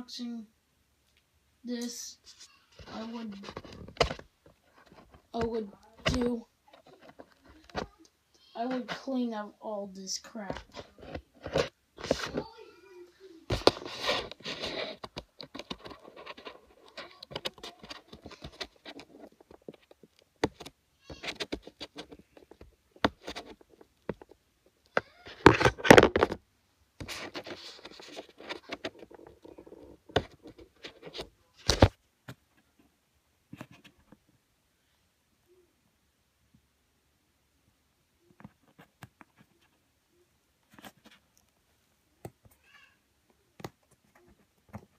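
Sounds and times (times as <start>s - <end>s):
handling noise rustling and scraping: 1.8s - 26.4s, 27.0s - 34.4s, 38.2s - 39.9s, 40.6s - 42.8s, 43.6s - 44.9s.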